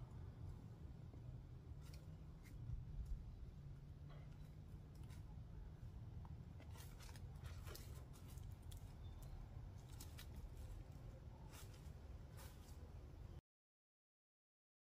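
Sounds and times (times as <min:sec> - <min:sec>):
low steady rumble: 0:00.0 - 0:13.4.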